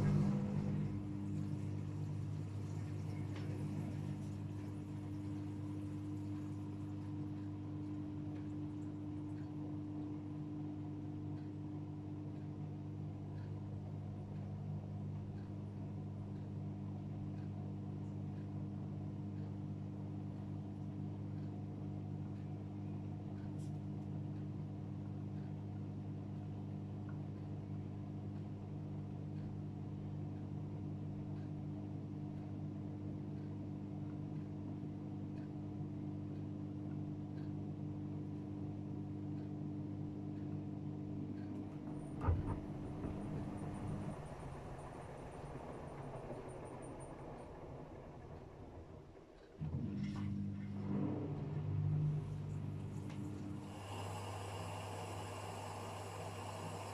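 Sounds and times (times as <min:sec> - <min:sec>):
washing machine humming: 0:00.0 - 0:56.9.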